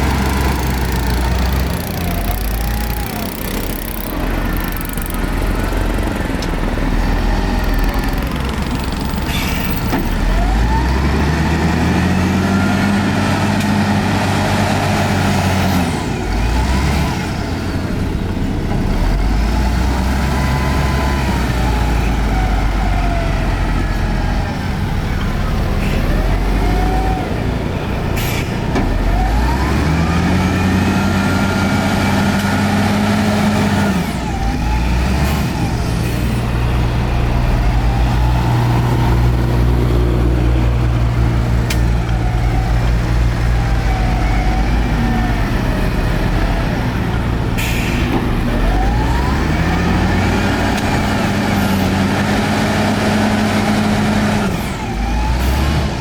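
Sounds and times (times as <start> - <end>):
diesel machinery engine: 0.0 - 56.0.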